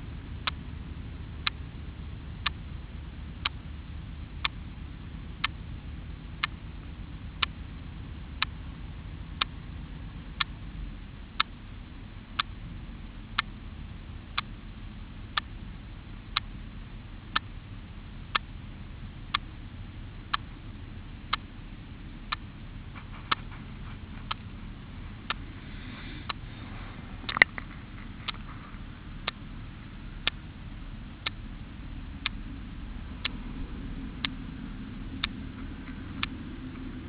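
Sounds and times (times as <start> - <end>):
low steady rumble: 0.0 - 37.0
steady ticking: 0.0 - 37.0.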